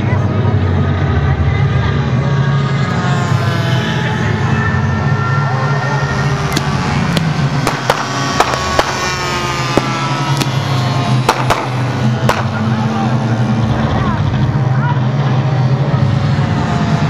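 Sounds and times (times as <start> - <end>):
model aircraft engine droning: 0.0 - 17.0.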